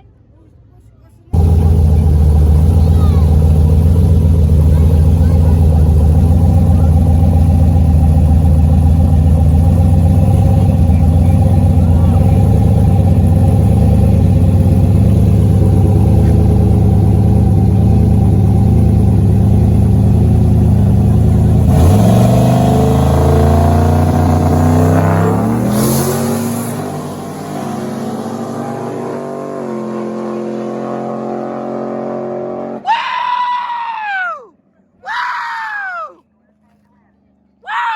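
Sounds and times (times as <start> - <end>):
drag racing engine accelerating: 1.4 - 32.8.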